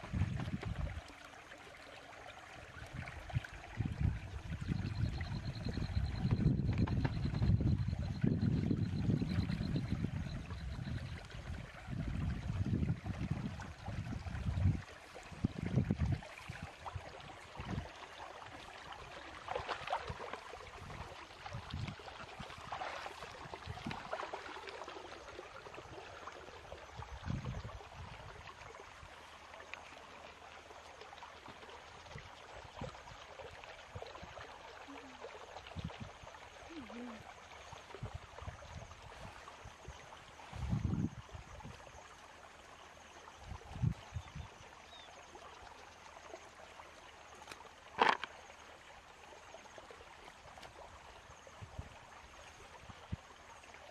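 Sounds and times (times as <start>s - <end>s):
water trickling in a ditch: 0.0s - 53.9s.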